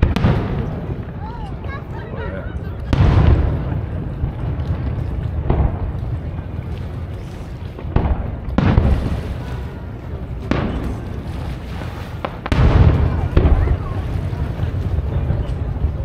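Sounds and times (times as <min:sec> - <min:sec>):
distant fireworks bangs: 0:00.0 - 0:16.0
rolling echo rumble: 0:00.0 - 0:16.0.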